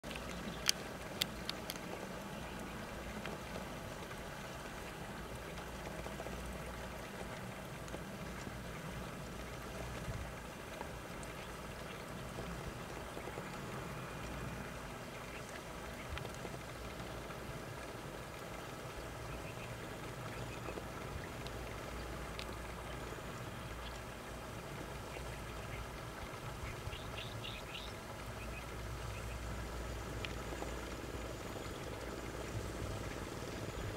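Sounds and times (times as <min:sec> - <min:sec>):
outdoor background hiss: 0:00.0 - 0:33.9
faint ticks: 0:00.1 - 0:33.9.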